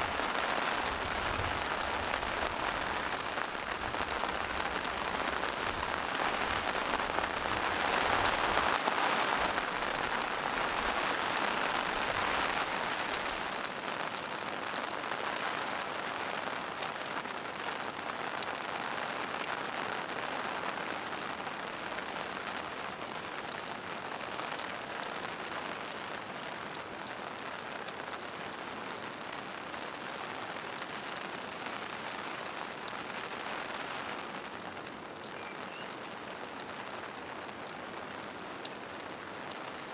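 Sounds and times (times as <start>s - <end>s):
rain falling through foliage: 0.0s - 39.9s.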